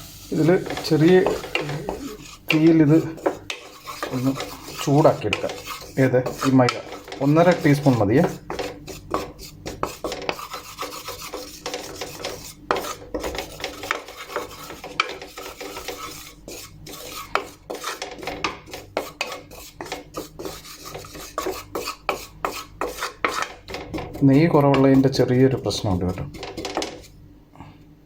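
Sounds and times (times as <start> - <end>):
spoon scraping a pan: 0.0 - 27.2.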